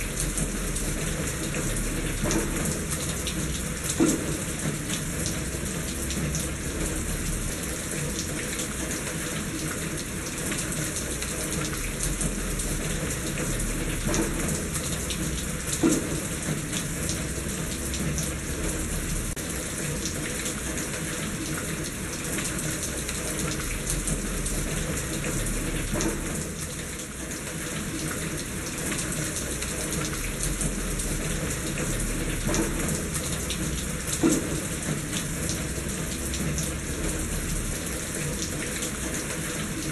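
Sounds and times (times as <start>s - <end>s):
steady rain: 0.0s - 39.9s
water splashing in a gutter: 0.0s - 39.9s.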